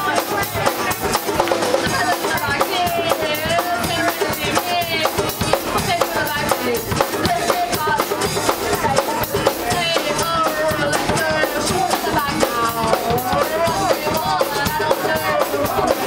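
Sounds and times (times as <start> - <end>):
punk rock band playing: 0.0 - 16.0.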